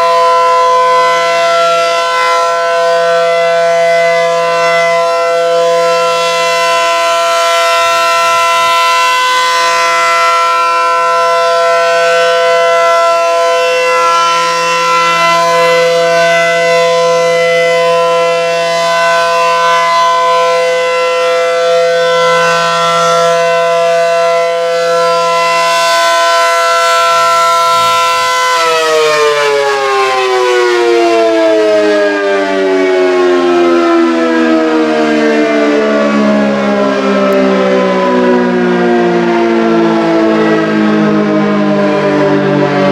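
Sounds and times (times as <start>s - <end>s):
warning siren: 0.0s - 42.9s.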